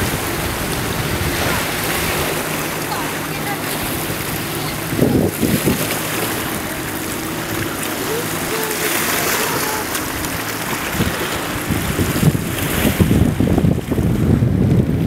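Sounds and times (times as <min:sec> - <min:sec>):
distant boat engines humming: 0:00.0 - 0:15.0
sea water washing: 0:00.0 - 0:15.0
wind on microphone: 0:00.0 - 0:15.0.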